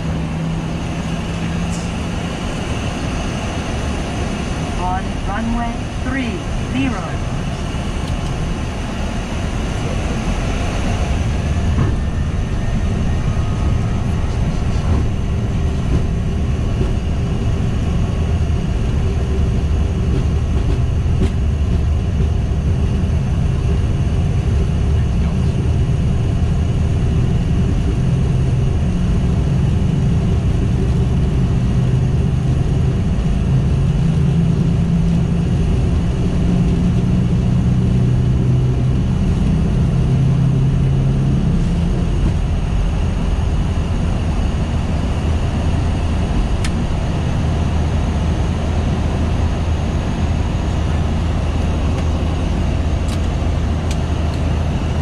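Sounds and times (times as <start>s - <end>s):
jet engines roaring: 0.0s - 55.0s
landing gear rumbling on runway: 0.0s - 55.0s.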